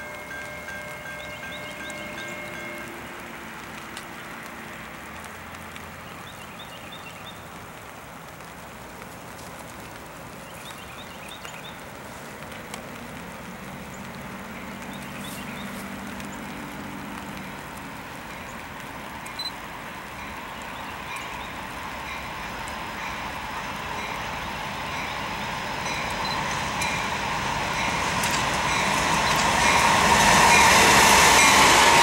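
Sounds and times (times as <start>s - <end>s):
diesel train engine drone: 0.0s - 6.3s, 11.8s - 32.0s.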